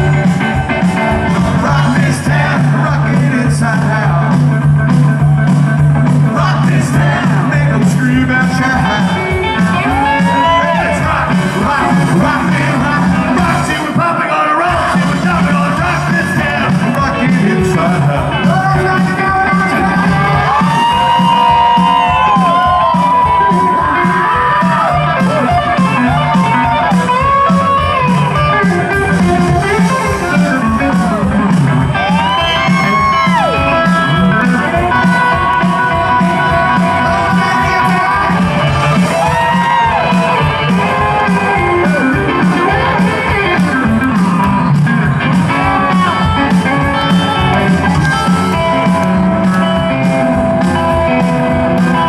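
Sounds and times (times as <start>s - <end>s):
bass and drum beat: 0.0s - 52.0s
electric guitar lead line: 0.0s - 52.0s
rockabilly band playing: 0.0s - 52.0s.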